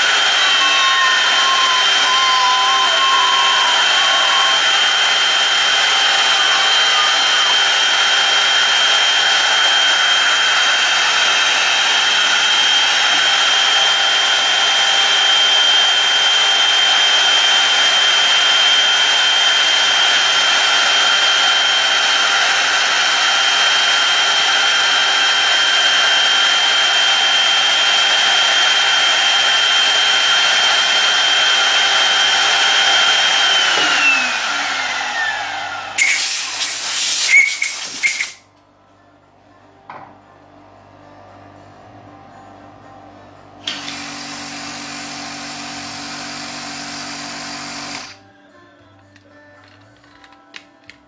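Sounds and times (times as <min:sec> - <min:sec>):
lens cutting machine whine: 0:00.0 - 0:36.8, 0:43.6 - 0:48.2.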